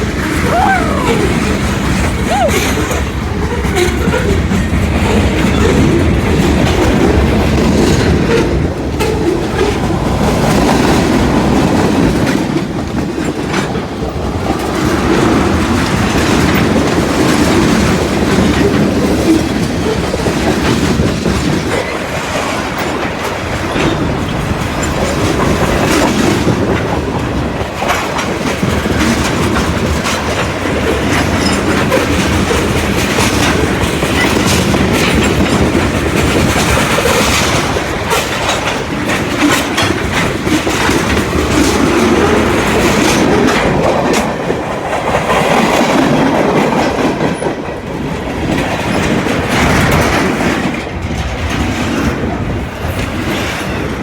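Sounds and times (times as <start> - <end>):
train cars rolling past: 0.0 - 54.0
wheels clicking over rail joints: 0.0 - 54.0.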